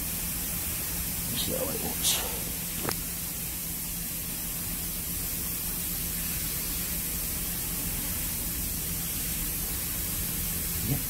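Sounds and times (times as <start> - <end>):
low even hum: 0.0 - 11.0
steady background hiss: 0.0 - 11.0.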